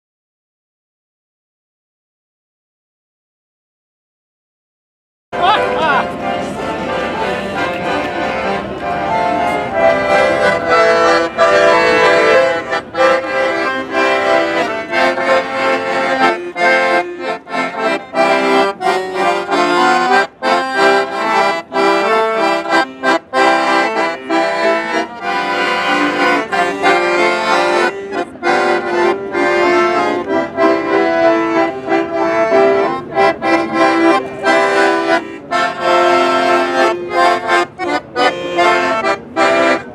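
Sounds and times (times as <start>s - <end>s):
piano accordion tune: 5.4s - 39.9s.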